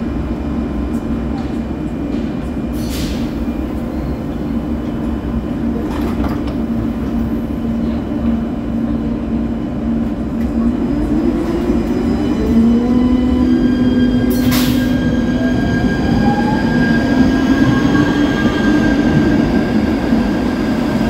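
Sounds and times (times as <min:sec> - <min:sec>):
train doors closing: 0:00.8 - 0:08.4, 0:10.2 - 0:21.0.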